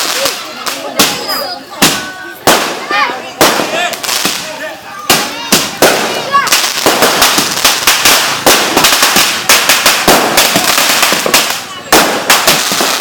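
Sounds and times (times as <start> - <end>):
firecrackers banging: 0.0 - 13.0
voices shouting: 0.0 - 13.0.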